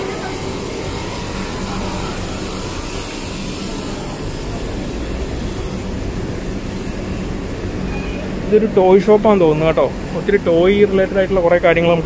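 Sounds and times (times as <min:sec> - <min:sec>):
city street hum and rumble: 0:00.0 - 0:12.0.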